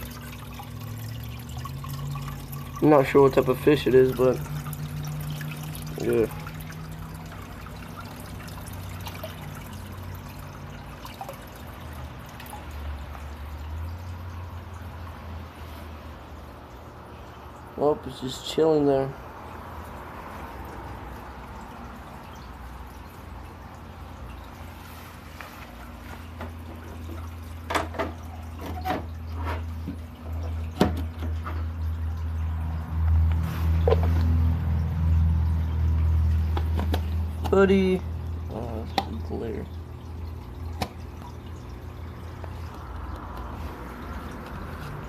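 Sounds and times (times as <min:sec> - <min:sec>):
low steady hum: 0:00.0 - 0:45.0
water trickling and dripping: 0:00.0 - 0:45.0.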